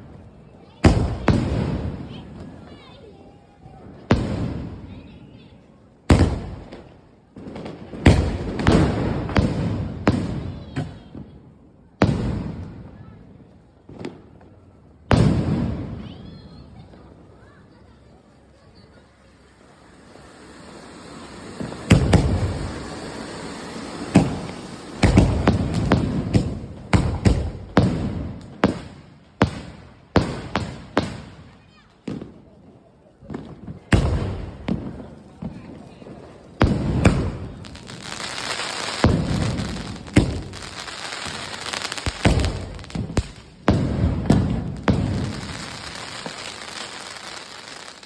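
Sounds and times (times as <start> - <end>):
firework hiss: 0.0 - 11.1, 15.2 - 48.0
firework bangs: 0.4 - 48.0.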